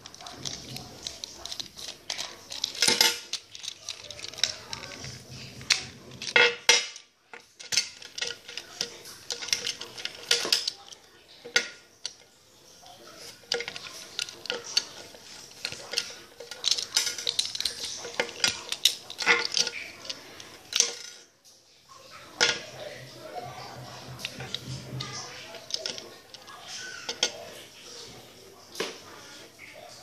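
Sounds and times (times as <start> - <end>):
small parts clicking and clinking: 0.0 - 29.1.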